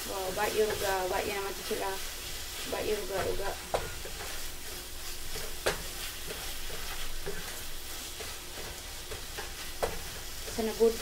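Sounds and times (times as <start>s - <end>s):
food sizzling in frying pan: 0.0s - 11.0s
wooden spatula scraping pan: 0.0s - 11.0s.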